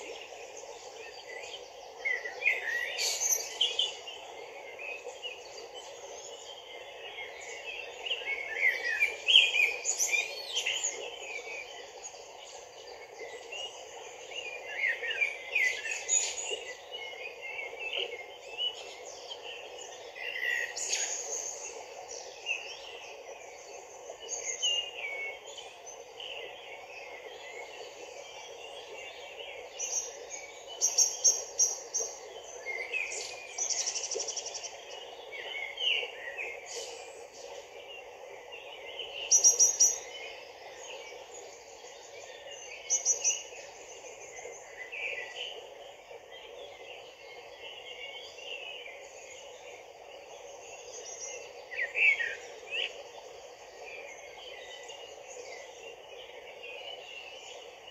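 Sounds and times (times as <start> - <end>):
small birds chirping: 0.0 - 57.9
stream running over rocks: 0.0 - 57.9.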